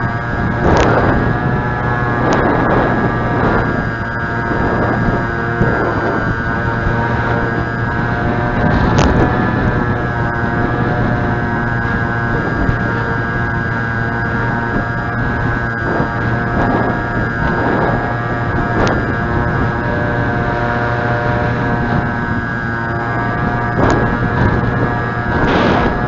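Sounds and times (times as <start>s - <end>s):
model plane motor buzzing: 0.0s - 26.0s
wind noise on microphone: 0.0s - 26.0s.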